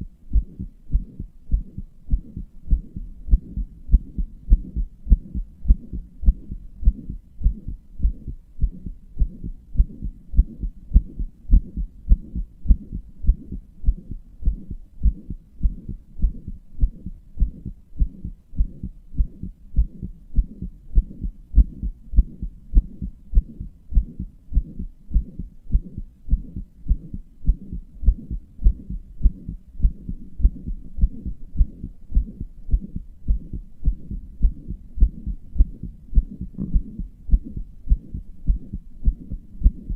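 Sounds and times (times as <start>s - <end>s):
heartbeat thuds: 0.0s - 39.9s
low hum between heartbeats: 0.0s - 39.9s.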